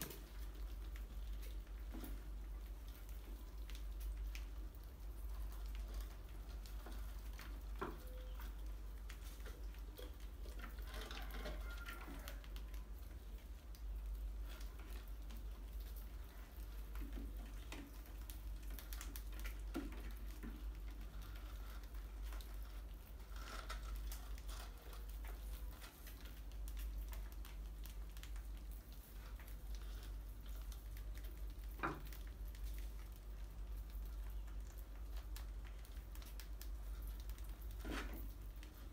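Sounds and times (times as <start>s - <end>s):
rodents scurrying and scratching: 0.0s - 38.9s.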